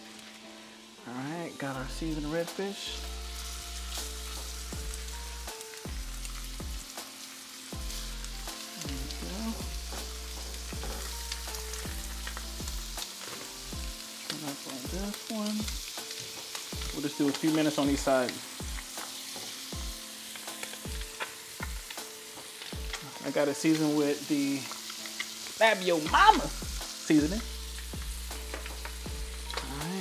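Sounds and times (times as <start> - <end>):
background music: 0.0 - 30.0
fish sizzling in a pan: 0.0 - 30.0.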